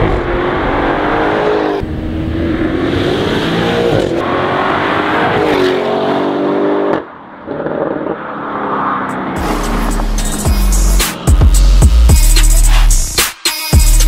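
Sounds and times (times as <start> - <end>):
car engine accelerating hard: 0.0 - 12.9.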